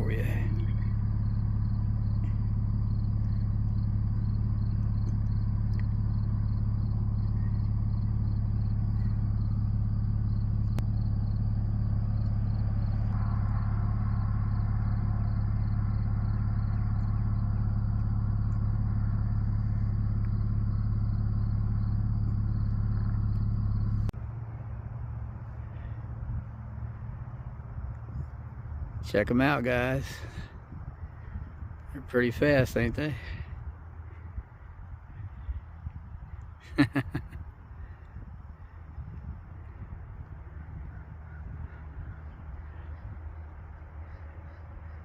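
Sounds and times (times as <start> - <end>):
motor vehicle rumble: 0.0 - 45.0.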